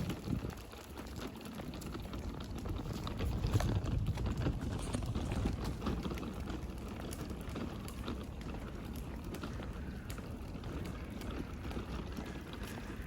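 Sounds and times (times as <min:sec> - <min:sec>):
small clicks and crunches: 0:00.0 - 0:13.0
stroller wheels rumbling: 0:00.0 - 0:13.0.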